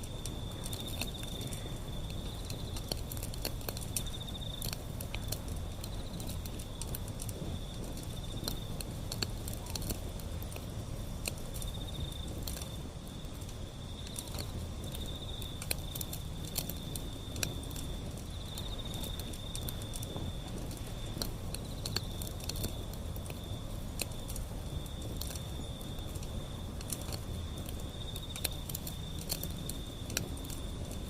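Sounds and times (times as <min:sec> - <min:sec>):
high insect trill: 0:00.0 - 0:31.0
wood fire crackling: 0:00.0 - 0:31.0.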